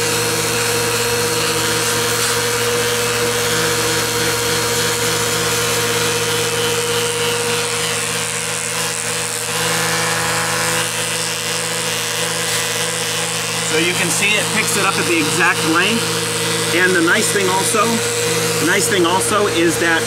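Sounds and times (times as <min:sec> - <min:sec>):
vacuum haircutter motor hum: 0:00.0 - 0:20.0.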